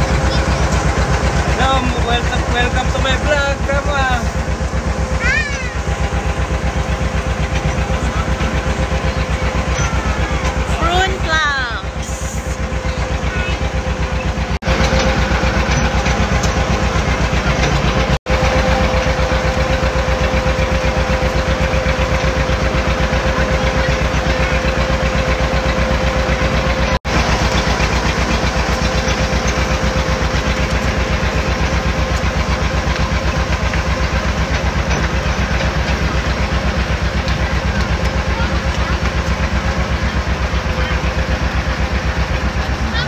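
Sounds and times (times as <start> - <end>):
engine running steadily: 0.0 - 43.0
steady whine: 0.0 - 43.0.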